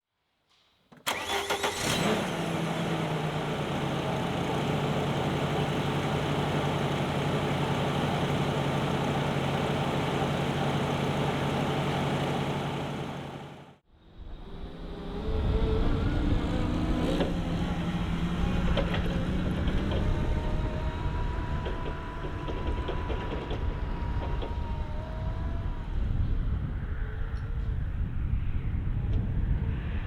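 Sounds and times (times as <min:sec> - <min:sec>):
forklift engine starting and idling: 0:01.0 - 0:15.4, 0:16.1 - 0:26.3.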